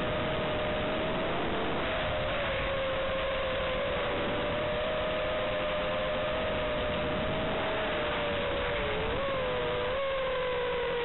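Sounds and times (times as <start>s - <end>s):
drone motors whining: 0.0s - 11.0s
steady transmitter hiss: 0.0s - 11.0s.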